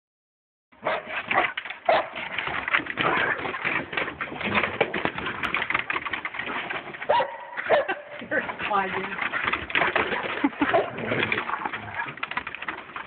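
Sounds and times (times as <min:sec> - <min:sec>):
dogs vocalizing and scuffling: 0:00.8 - 0:13.0.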